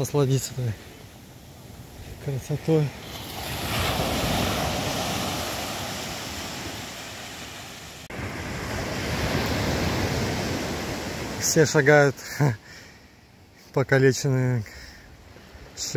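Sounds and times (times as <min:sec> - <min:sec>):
waves breaking on shore: 0:00.0 - 0:13.2.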